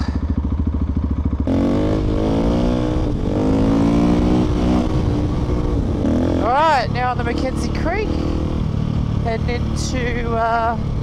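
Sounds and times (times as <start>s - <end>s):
motorcycle engine idling: 0.0s - 3.8s, 4.4s - 11.0s
motorcycle riding: 0.0s - 11.0s.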